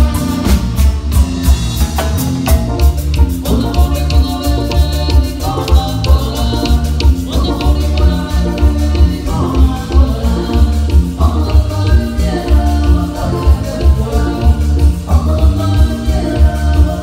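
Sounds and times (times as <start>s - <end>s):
brass band playing: 0.0s - 17.0s
percussion strokes: 0.0s - 17.0s
pulsing bass line: 0.0s - 17.0s.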